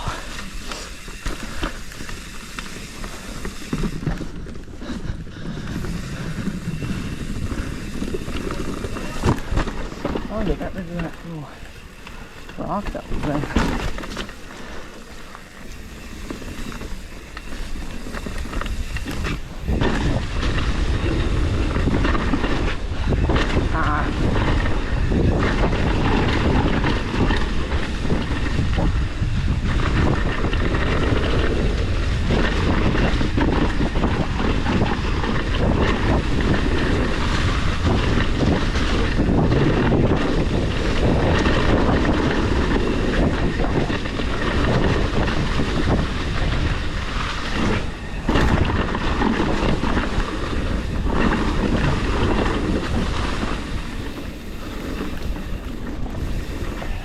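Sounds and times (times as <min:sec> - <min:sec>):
bike rattling: 0:00.0 - 0:57.0
tyres clattering over rough ground: 0:00.0 - 0:57.0
wind noise on microphone: 0:00.0 - 0:57.0.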